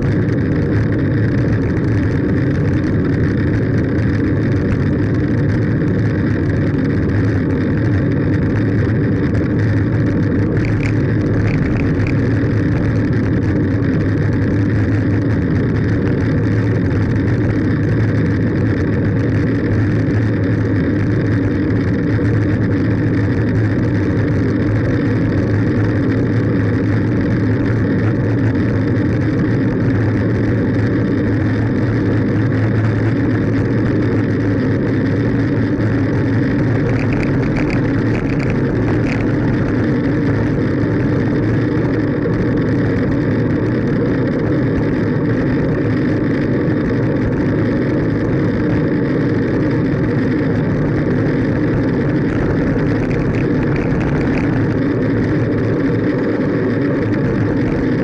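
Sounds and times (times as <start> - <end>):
bicycle road rumble: 0.0 - 58.0.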